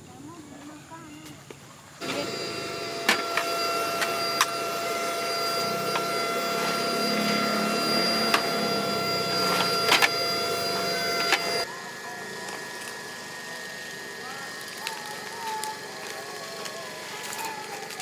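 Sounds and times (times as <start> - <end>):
small motor whining: 2.0 - 18.0.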